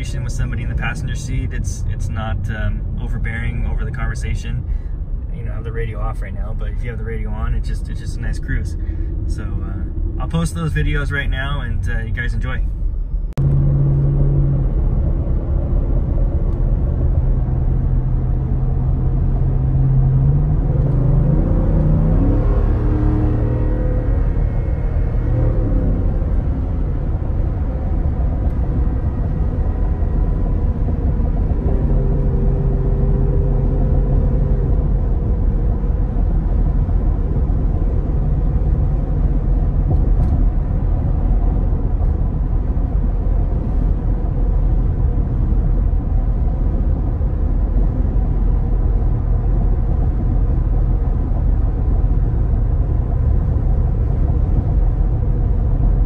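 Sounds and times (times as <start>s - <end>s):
exhaust rumble: 0.0s - 56.0s
road noise: 0.0s - 56.0s.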